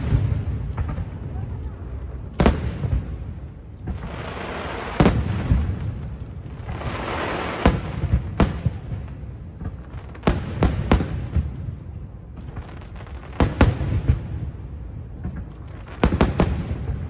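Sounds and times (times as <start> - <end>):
fireworks bangs: 0.0 - 17.0
fireworks crackling and fizzing: 0.0 - 17.0.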